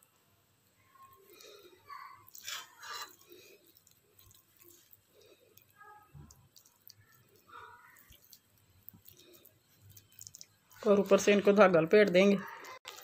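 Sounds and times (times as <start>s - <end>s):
soft squishing of meat filling: 0.0s - 13.0s.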